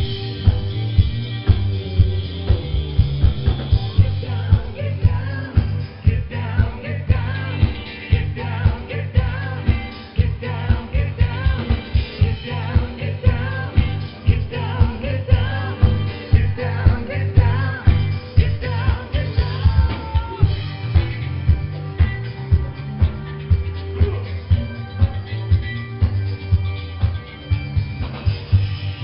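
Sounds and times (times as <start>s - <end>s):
guitar: 0.0s - 29.0s
steady drum beat: 0.0s - 29.0s
person singing: 2.1s - 25.6s.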